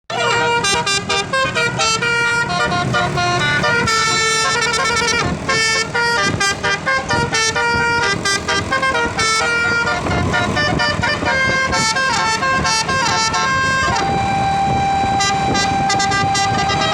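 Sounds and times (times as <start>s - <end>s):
multi-tone horn playing a tune: 0.1s - 16.9s.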